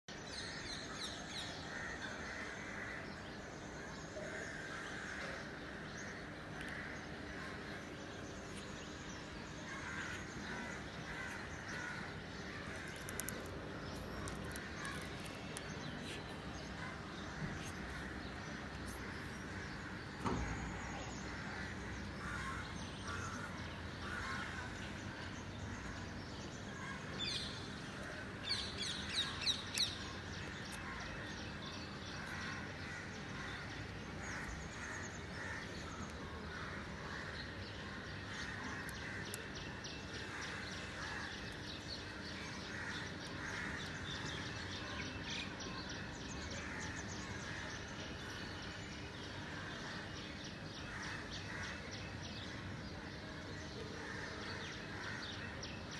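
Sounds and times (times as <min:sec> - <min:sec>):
birds chirping: 0:00.1 - 0:55.9
loud bird calls: 0:00.3 - 0:53.0.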